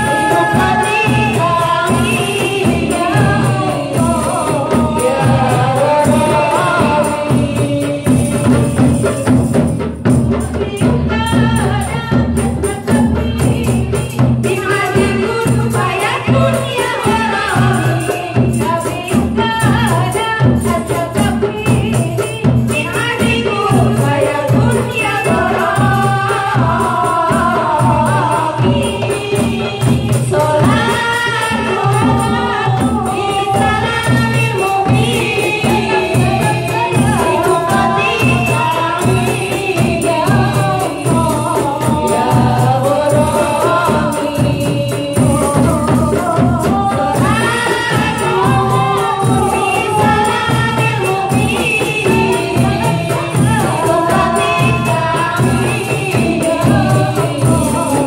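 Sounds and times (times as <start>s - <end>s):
frame drums beating quick rhythm: 0.0s - 58.0s
women singing together: 0.0s - 58.0s.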